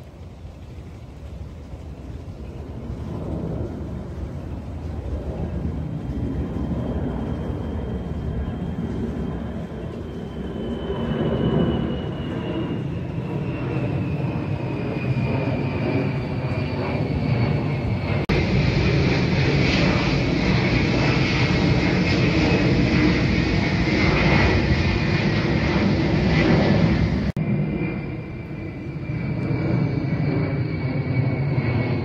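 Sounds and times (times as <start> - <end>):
jet aircraft flying overhead: 0.0 - 32.0.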